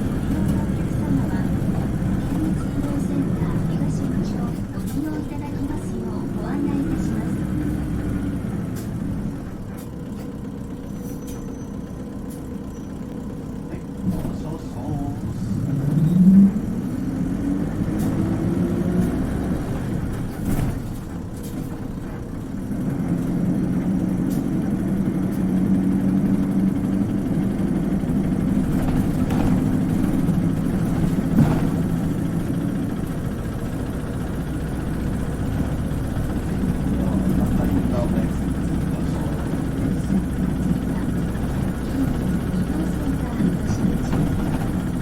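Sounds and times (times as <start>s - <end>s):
bus engine from inside cabin: 0.0s - 45.0s.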